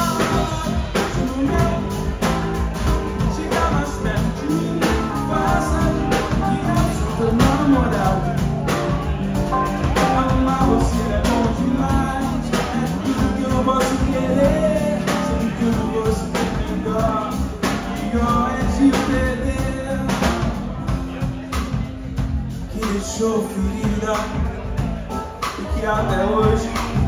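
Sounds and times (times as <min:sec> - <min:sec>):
live rock band playing: 0:00.0 - 0:27.0
man singing: 0:00.0 - 0:27.0.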